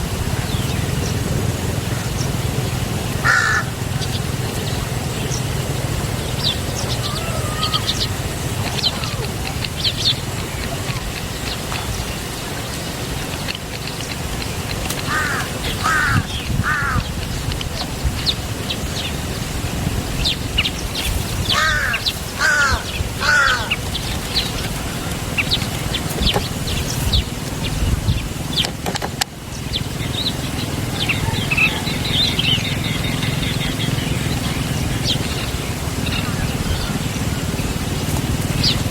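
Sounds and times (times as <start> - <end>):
loud repeated bird calls: 1.8 - 19.4, 20.2 - 28.8, 29.4 - 37.2.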